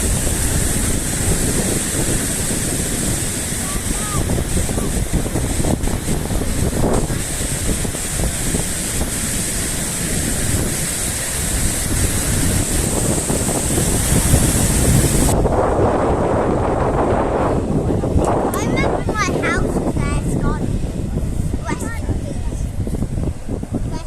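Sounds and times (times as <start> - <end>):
stream water rushing: 0.0 - 23.9
wind buffeting microphone: 0.0 - 24.0.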